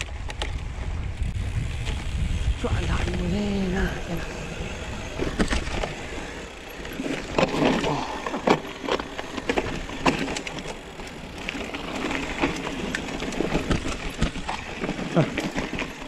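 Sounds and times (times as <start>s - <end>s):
bike rattling and knocking: 0.0s - 16.0s
tyres over grass and stones: 0.0s - 16.0s.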